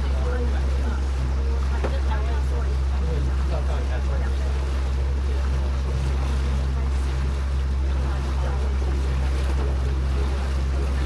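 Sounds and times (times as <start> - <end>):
boat motor droning: 0.0 - 11.0
water noise: 0.0 - 11.0.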